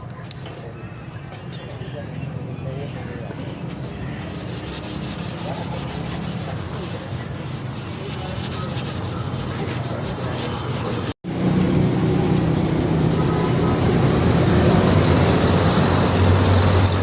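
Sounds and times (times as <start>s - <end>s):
scrubbing rusty metal by hand: 3.4s - 17.0s.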